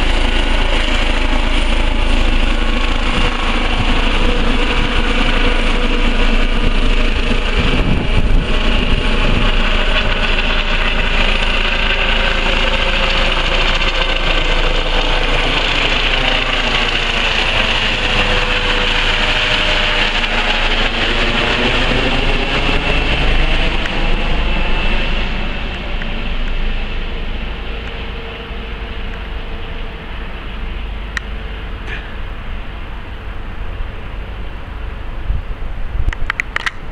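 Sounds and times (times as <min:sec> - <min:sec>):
helicopter flying overhead: 0:00.0 - 0:36.9.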